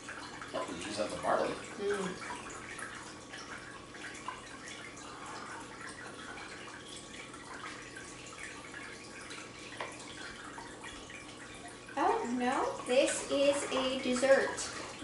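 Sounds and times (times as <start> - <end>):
low hiss and faint hum: 0.0 - 15.0.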